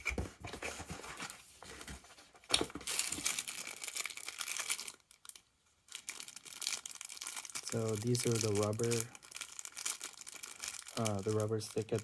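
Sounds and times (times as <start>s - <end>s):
plastic packaging crinkling: 0.7s - 12.0s.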